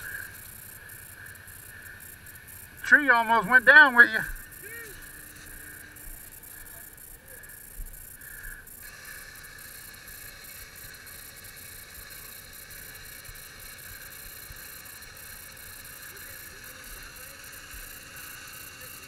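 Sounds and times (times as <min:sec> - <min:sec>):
electric winch running: 0:00.0 - 0:19.0.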